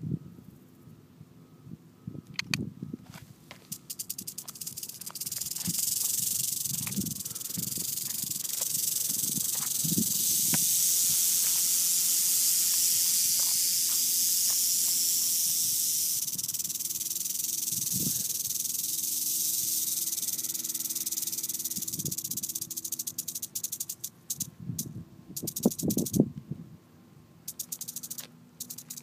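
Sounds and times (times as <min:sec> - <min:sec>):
rattlesnake tail rattle: 0:03.5 - 0:26.2, 0:27.5 - 0:29.0.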